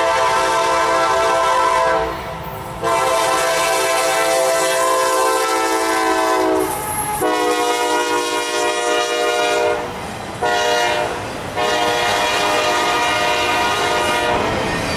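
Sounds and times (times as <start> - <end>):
locomotive air horn blasts: 0.0 - 14.5
train running noise: 0.0 - 14.9.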